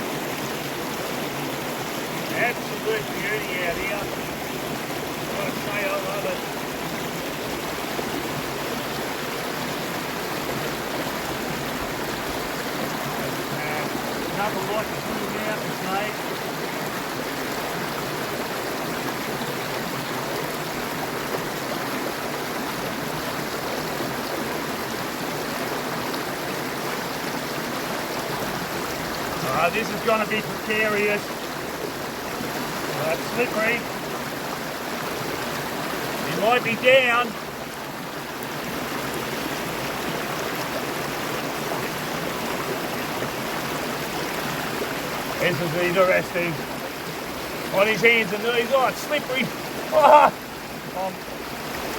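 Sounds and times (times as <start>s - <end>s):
water rushing over rocks: 0.0s - 51.9s.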